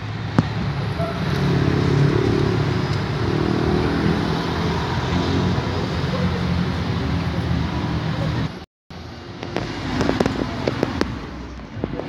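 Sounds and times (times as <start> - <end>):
bus engine running: 0.0 - 12.0
road traffic passing: 0.0 - 12.0.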